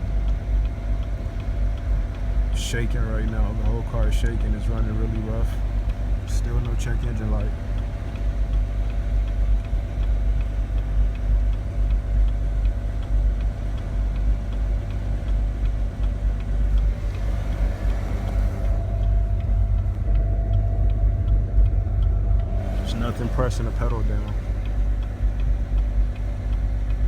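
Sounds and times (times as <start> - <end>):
car engine idling rough: 0.0 - 27.0
faint engine ticking: 0.0 - 27.0.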